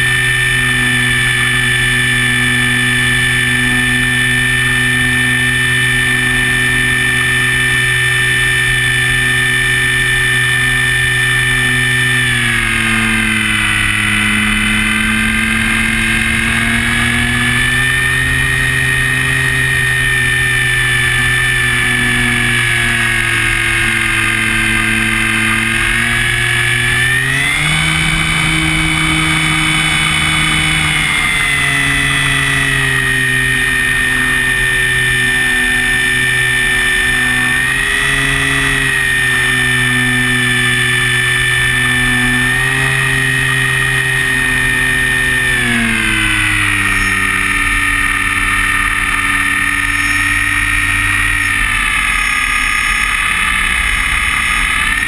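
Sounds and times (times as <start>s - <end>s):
electric motor and propeller whining: 0.0s - 55.0s.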